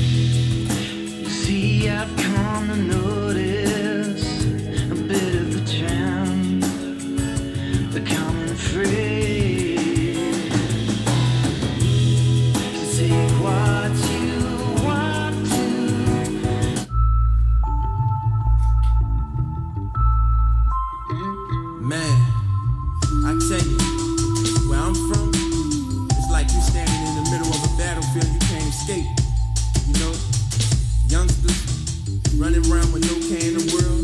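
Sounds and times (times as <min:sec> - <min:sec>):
guitar rock music with drums: 0:00.0 - 0:16.9, 0:23.0 - 0:34.0.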